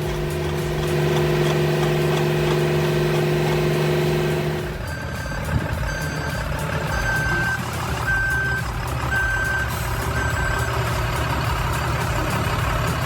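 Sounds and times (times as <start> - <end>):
reversing alarm beeping: 0.0 - 11.0
heavy vehicle engine running: 0.0 - 13.0.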